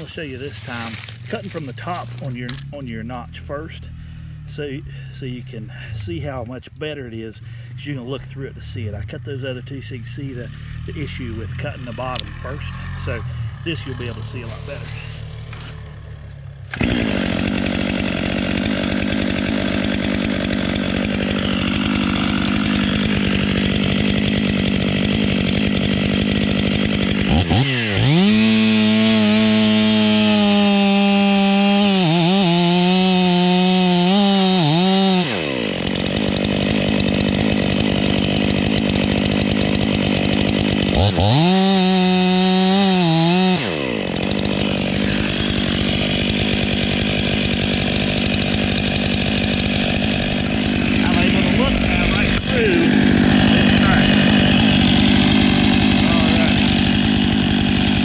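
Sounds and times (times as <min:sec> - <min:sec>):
chainsaw cutting into wood: 0:00.0 - 0:03.2, 0:10.2 - 0:58.0
chainsaw idling and revving: 0:00.0 - 0:58.0.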